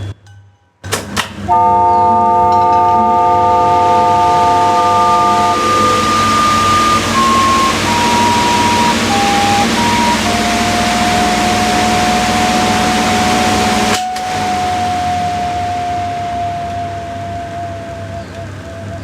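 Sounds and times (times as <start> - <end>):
quiet hiss: 1.3 - 19.0
loud rushing humming drone: 1.5 - 19.0
recorder playing notes: 1.5 - 19.0.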